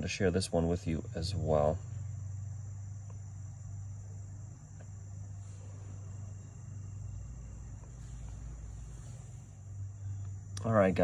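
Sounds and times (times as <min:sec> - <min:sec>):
crickets trilling: 0:00.0 - 0:11.0
low hum: 0:00.0 - 0:11.0.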